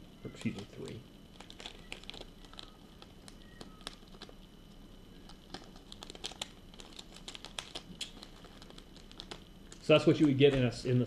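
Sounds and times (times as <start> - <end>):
plastic pack crinkling: 0.3 - 4.4, 5.2 - 10.8.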